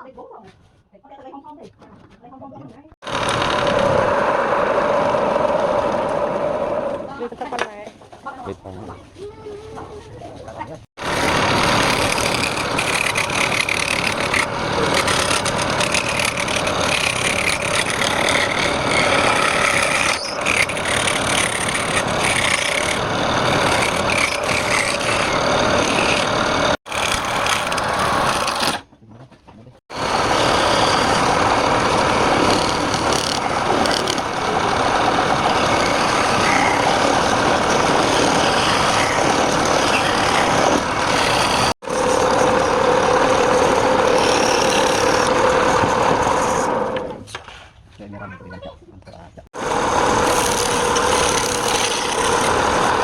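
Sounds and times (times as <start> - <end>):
lathe tool cutting wood: 3.0 - 7.1, 11.0 - 28.8, 29.9 - 47.2, 49.6 - 53.0.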